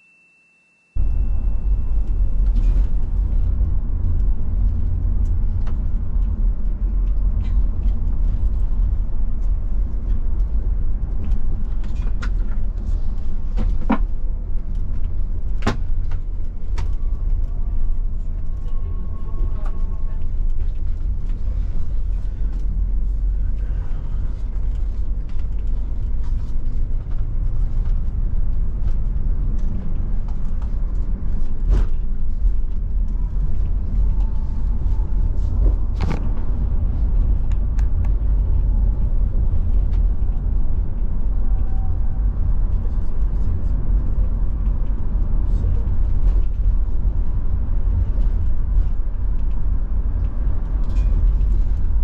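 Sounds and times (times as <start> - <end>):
coach engine and road rumble: 1.0 - 52.0.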